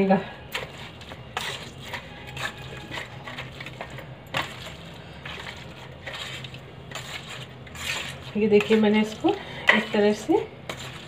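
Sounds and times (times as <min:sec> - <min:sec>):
carrots squashing under masher: 0:00.5 - 0:11.0.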